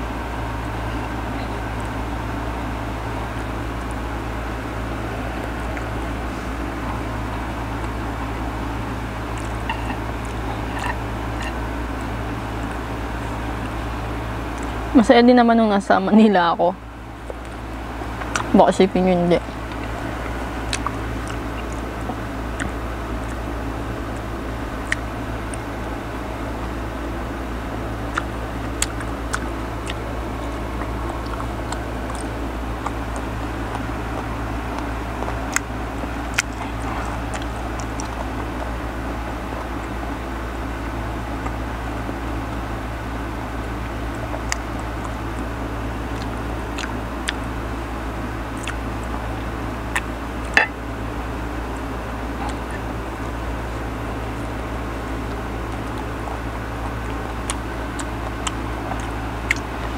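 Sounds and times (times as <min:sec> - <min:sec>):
chewing and biting fruit: 0:00.0 - 0:14.9, 0:16.8 - 0:59.9
steady low hum: 0:00.0 - 0:59.9
crunchy mouth clicks: 0:04.8 - 0:14.9, 0:17.2 - 0:18.6, 0:19.4 - 0:26.8, 0:27.6 - 0:42.7, 0:43.5 - 0:47.6, 0:48.2 - 0:50.8, 0:51.4 - 0:59.9.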